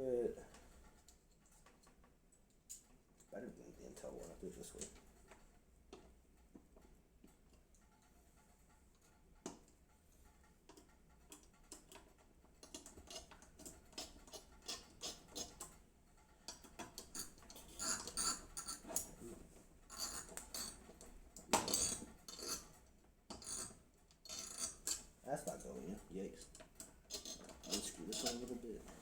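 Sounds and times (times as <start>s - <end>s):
small metallic clicks and clinks: 0.5s - 3.3s, 6.8s - 19.2s, 19.9s - 28.9s.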